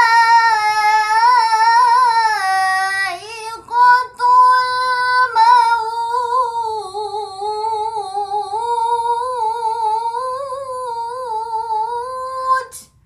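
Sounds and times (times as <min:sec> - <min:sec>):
girl reciting melodically: 0:00.0 - 0:13.0.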